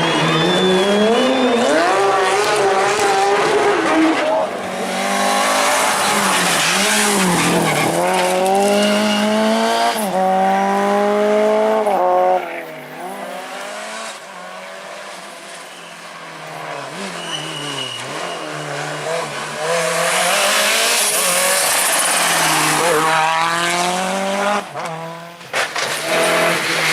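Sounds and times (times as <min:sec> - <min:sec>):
rally car engine revving: 0:00.0 - 0:15.1, 0:16.4 - 0:26.9.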